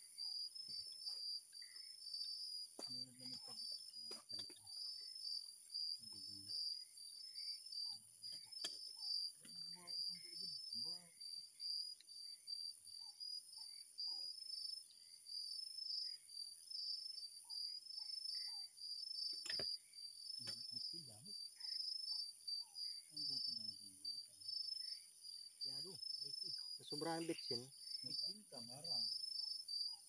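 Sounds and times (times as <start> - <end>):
insects high-pitched drone: 0.0 - 30.0
insects pulsing chirp: 0.0 - 30.0.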